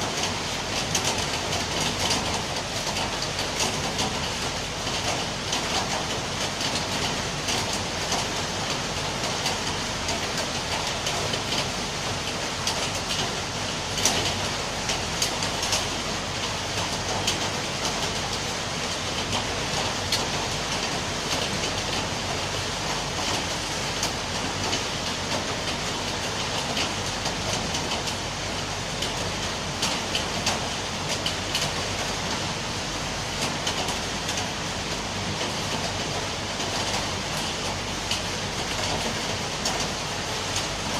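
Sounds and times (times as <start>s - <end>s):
rain falling steadily: 0.0s - 40.9s.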